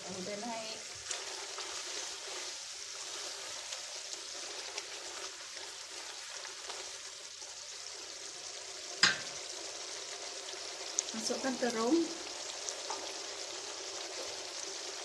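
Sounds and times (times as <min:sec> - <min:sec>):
gravy bubbling and sizzling: 0:00.0 - 0:15.0.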